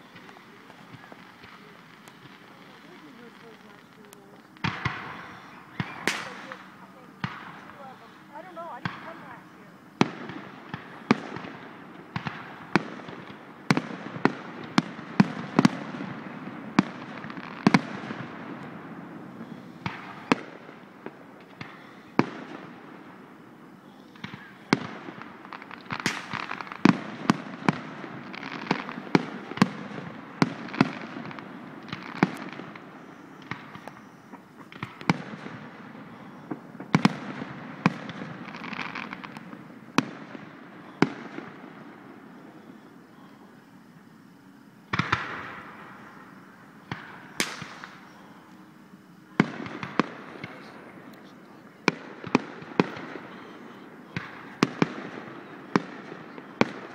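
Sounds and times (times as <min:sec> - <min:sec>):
fireworks bursting: 0:00.0 - 0:56.9
steady background noise: 0:00.0 - 0:56.9.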